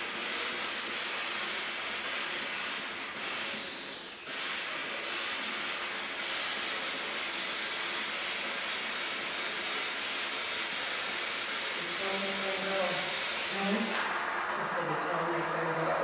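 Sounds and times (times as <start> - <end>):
radio static: 0.0 - 16.0.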